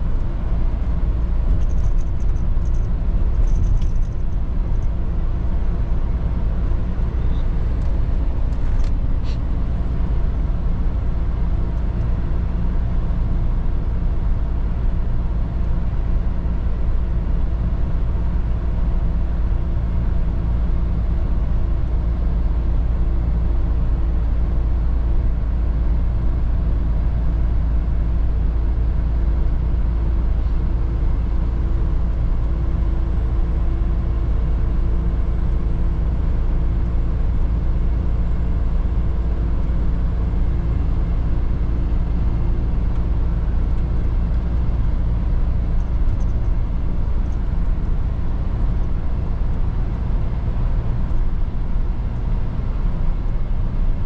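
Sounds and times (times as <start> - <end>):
road noise: 0.0 - 54.0
truck diesel engine in cab: 0.0 - 54.0.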